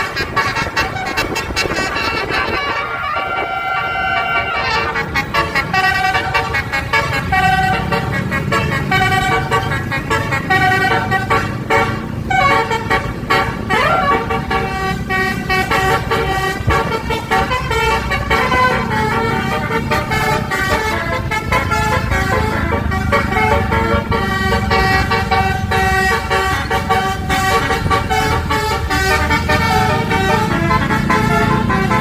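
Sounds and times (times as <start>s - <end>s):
low engine rumble: 0.0s - 32.0s
multi-tone bus horn melody: 0.0s - 32.0s.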